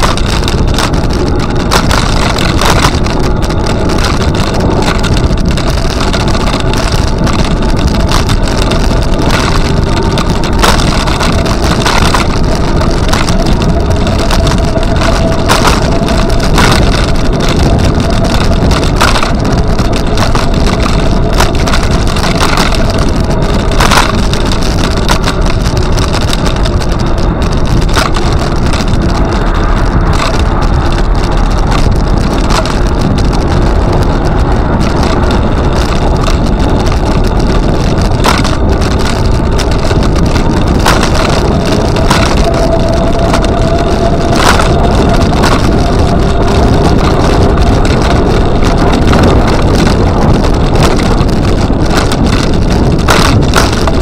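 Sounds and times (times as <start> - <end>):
faint whine: 0.0 - 54.0
wheels rolling on pavement: 0.0 - 54.0
wind buffeting: 0.0 - 54.0.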